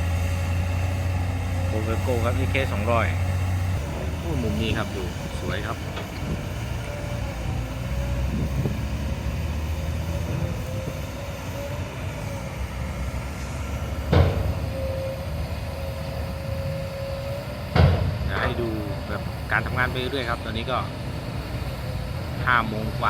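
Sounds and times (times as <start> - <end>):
excavator diesel engine running: 0.0 - 23.0
steady whine: 0.0 - 23.0.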